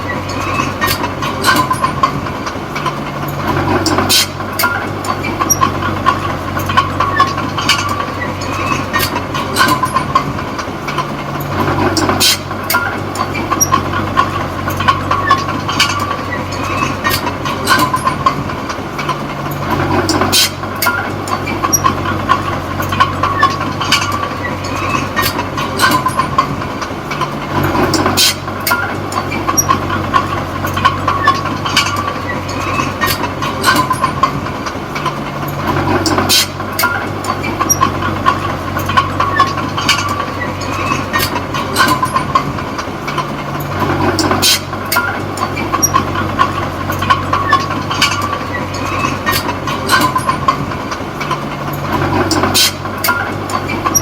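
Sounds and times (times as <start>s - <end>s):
bulldozer diesel engine: 0.0s - 54.0s
metallic clanks of tracks: 0.0s - 54.0s.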